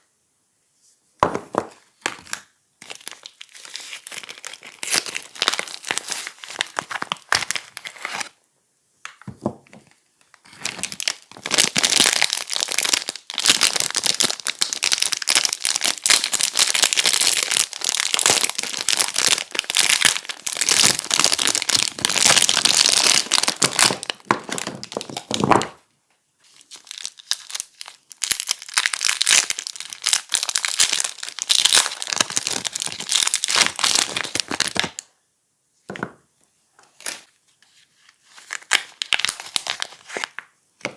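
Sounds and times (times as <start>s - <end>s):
packaging crinkling: 1.5s - 8.4s, 10.3s - 25.8s, 26.5s - 35.0s, 36.9s - 40.4s.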